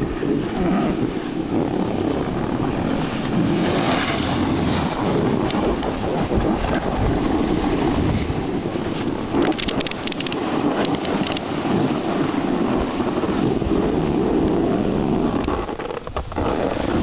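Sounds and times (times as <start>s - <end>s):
snowboard scraping clicks: 0.0s - 17.0s
wind rushing on microphone: 0.0s - 17.0s.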